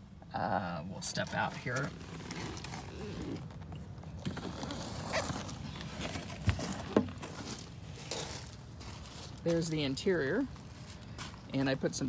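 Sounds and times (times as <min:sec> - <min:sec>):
handling noise and rustle: 0:01.1 - 0:11.6.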